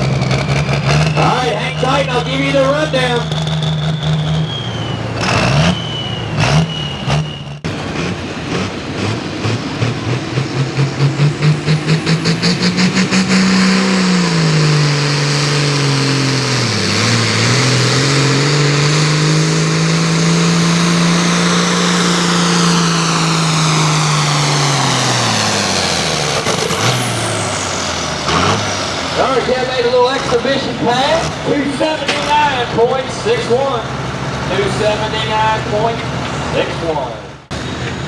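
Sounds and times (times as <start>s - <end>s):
tractor diesel engine at full throttle: 0.0s - 38.0s.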